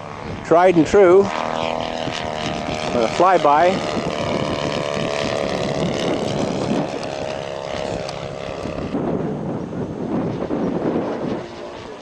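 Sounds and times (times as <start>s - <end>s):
model airplane engine flyby: 0.0s - 12.0s
wind buffeting microphone: 0.0s - 12.0s.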